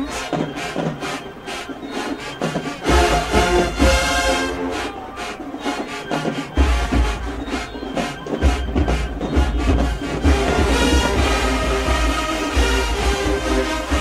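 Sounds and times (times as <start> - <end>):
marching band brass and drums: 0.0 - 14.0.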